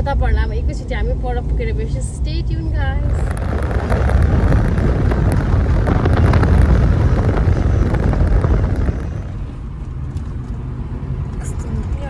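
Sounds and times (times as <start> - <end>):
car road and engine rumble: 0.0 - 12.0
wind buffeting microphone: 0.0 - 12.0.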